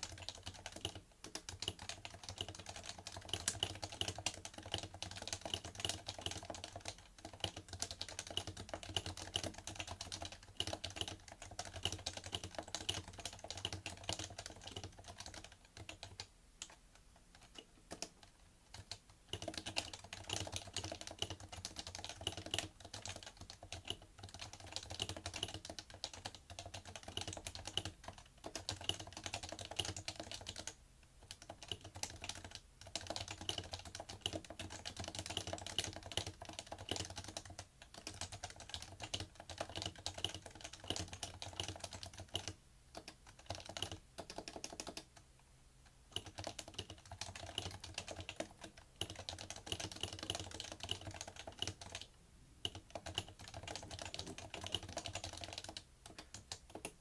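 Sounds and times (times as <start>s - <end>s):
keyboard typing clacks: 0.0s - 45.2s, 46.1s - 57.0s.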